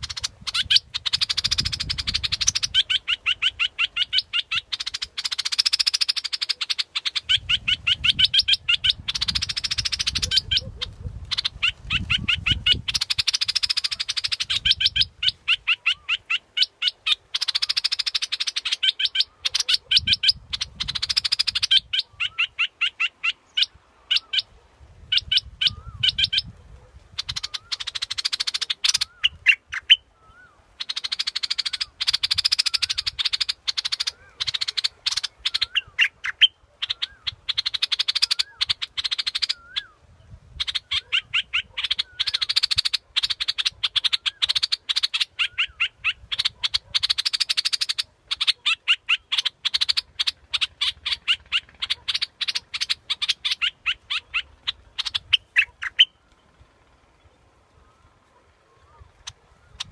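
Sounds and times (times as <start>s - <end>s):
bulbul chattering song: 0.0s - 24.5s, 27.2s - 30.1s, 30.8s - 56.6s, 59.2s - 59.9s.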